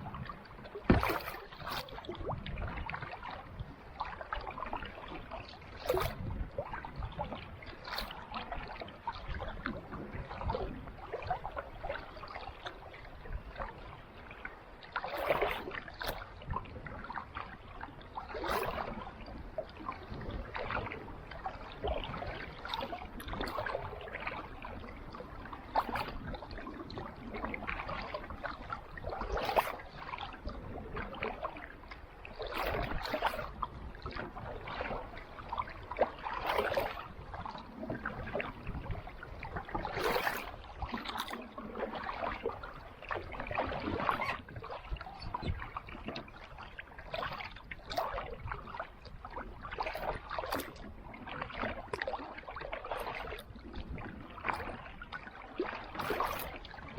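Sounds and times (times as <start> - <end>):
kayak paddle splashing: 0.0 - 56.9
steady wash of water: 0.0 - 56.9.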